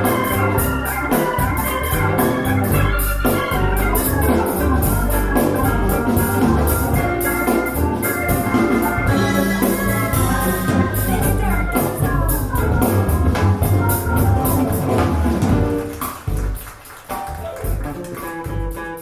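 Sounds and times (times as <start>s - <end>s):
music through speakers: 0.0s - 16.5s.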